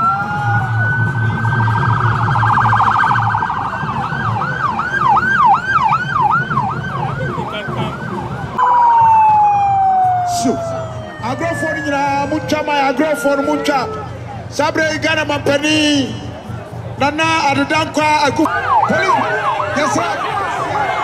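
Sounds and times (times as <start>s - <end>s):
police sirens: 0.0s - 21.0s.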